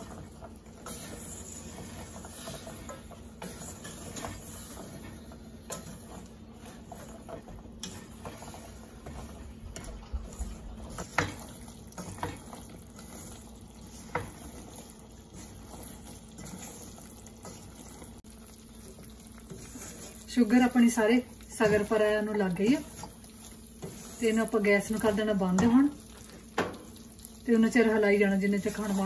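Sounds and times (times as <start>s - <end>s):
wooden spatula scraping a saucepan: 0.0s - 29.0s.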